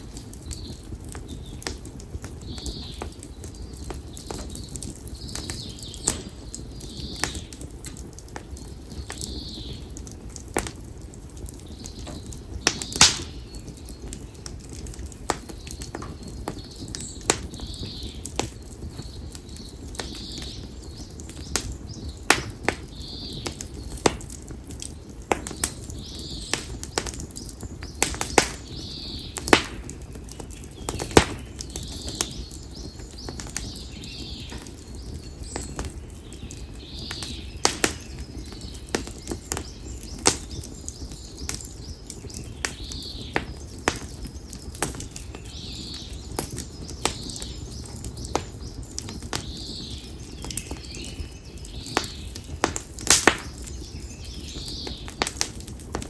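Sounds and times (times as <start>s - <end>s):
firewood crackling in open fire: 0.0s - 56.0s.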